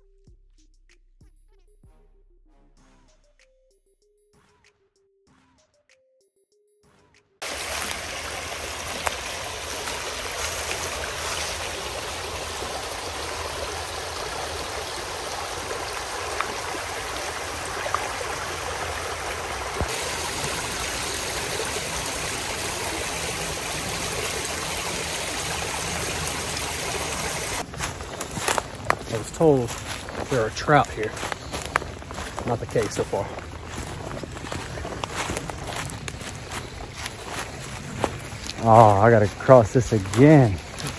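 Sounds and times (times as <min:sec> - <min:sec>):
water rushing over rocks: 0:07.4 - 0:40.9.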